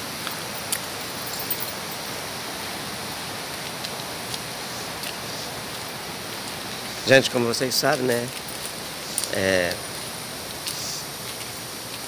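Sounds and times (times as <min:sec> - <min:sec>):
rushing river water: 0:00.0 - 0:12.0.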